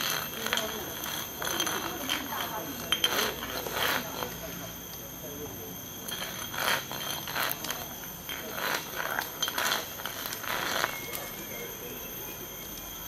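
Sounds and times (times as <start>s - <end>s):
glass bulb scraping concrete: 0.0s - 4.8s, 6.0s - 12.7s.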